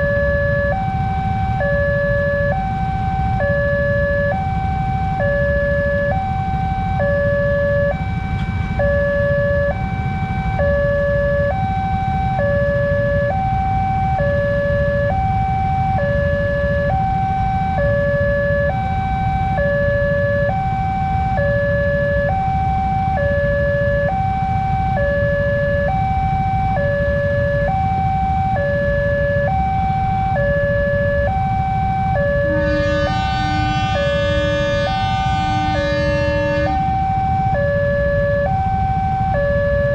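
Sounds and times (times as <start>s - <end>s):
two-tone level crossing alarm: 0.0s - 39.9s.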